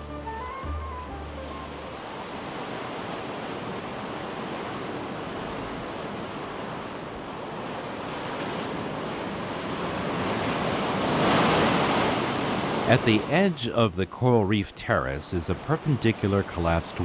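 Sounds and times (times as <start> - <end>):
sea waves rushing on shore: 0.0 - 17.0.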